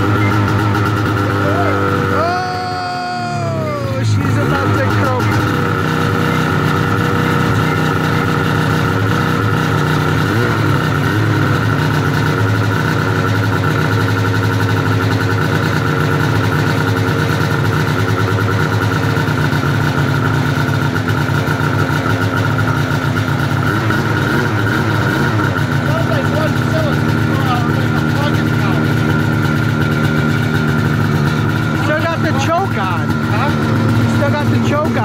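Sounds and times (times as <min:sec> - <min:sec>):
snowmobile engine idling: 0:00.0 - 0:35.0.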